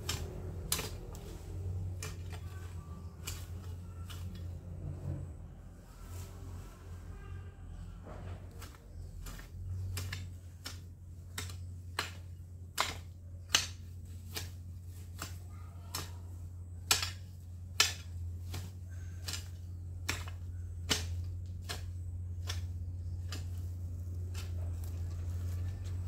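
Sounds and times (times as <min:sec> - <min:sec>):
hand tool chopping into soil: 0:00.0 - 0:04.5, 0:08.6 - 0:26.0
steady low hum: 0:00.0 - 0:26.0.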